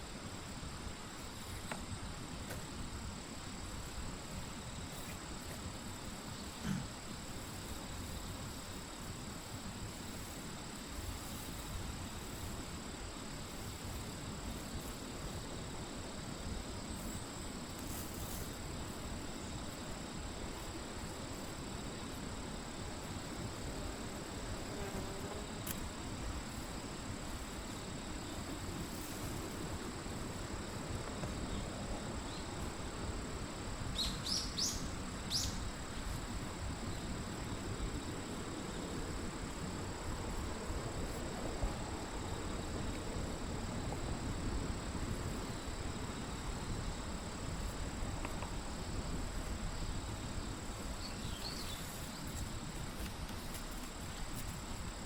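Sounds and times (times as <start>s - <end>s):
high insect tone: 0.0s - 55.0s
steady background hiss: 0.0s - 55.0s.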